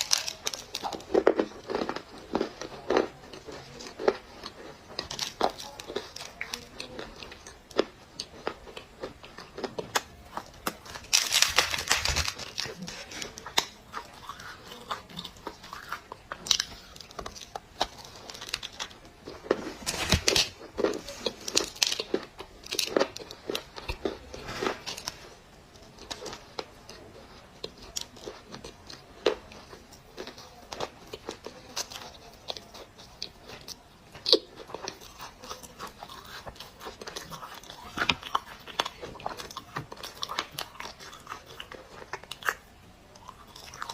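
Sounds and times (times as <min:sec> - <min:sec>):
clay crunching and crackling: 0:00.0 - 0:43.9.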